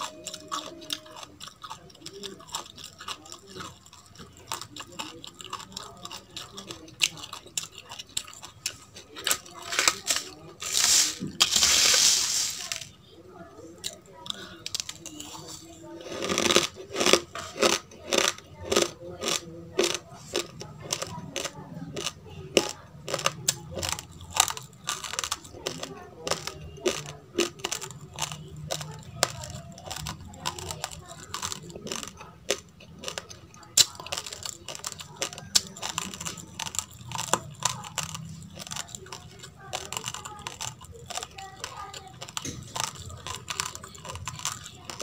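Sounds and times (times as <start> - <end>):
chewing crunchy rice grains: 0.0 - 45.0.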